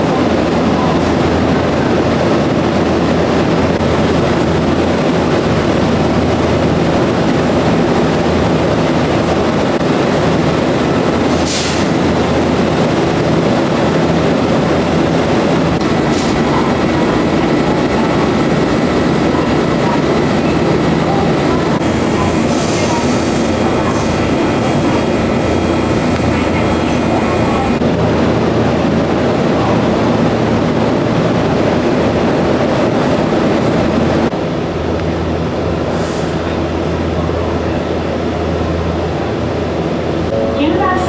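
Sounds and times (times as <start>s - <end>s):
electric train rumbling on track: 0.0s - 41.0s.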